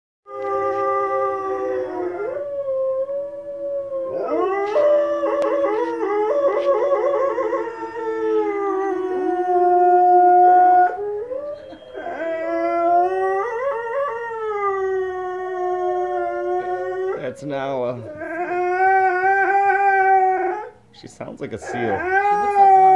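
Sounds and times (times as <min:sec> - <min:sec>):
dog howling: 0:00.3 - 0:17.4, 0:18.1 - 0:20.8, 0:21.6 - 0:22.9
wolves howling on television: 0:00.3 - 0:20.9, 0:21.5 - 0:22.9.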